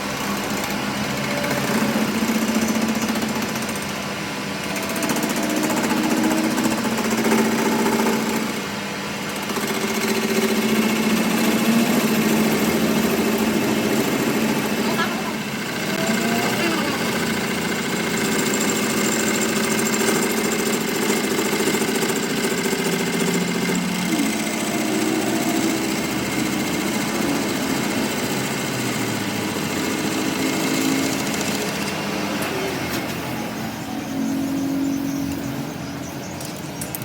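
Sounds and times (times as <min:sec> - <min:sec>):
mechanical clatter: 0:00.0 - 0:33.4, 0:35.0 - 0:37.0
workshop machine motor hum: 0:00.0 - 0:37.0.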